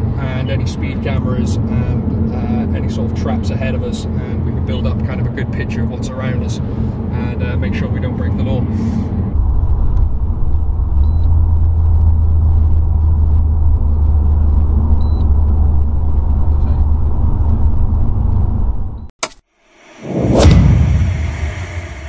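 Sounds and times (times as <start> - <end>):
engine and road drone: 0.0 - 22.0.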